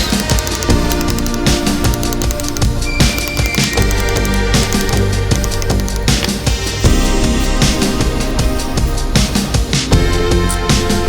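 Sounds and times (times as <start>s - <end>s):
music with heavy beat: 0.0s - 11.0s.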